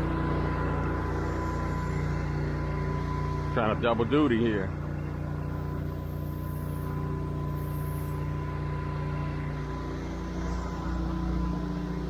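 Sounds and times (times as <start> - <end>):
pressure washer engine running: 0.0 - 12.0
thin high whine: 0.0 - 12.0.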